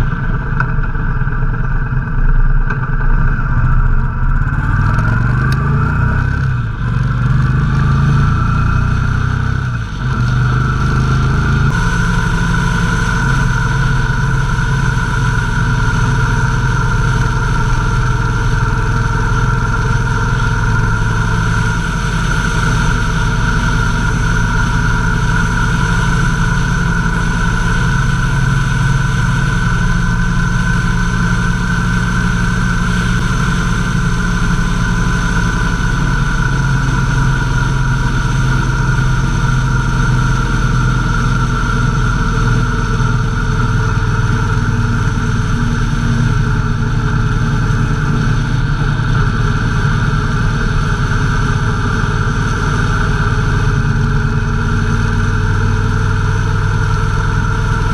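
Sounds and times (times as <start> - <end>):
motorcycle engine cruising: 0.0 - 57.9
wind and road noise: 0.0 - 57.9.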